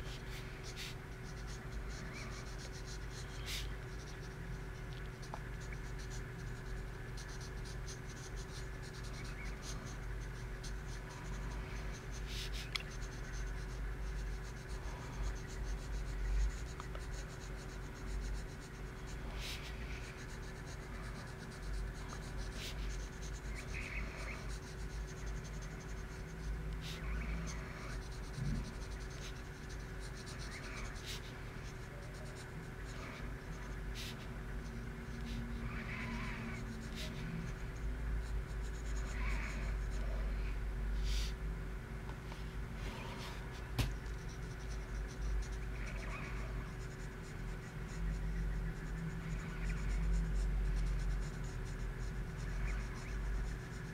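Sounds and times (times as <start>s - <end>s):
pencil scratching on paper: 0.0s - 40.2s, 43.0s - 53.9s.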